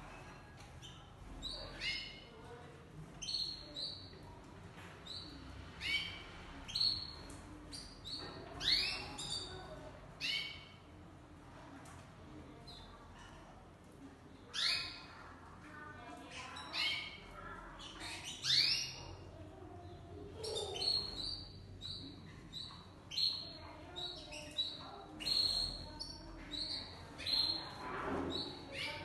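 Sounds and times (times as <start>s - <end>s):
canaries chirping: 0.1s - 11.0s, 14.3s - 29.0s.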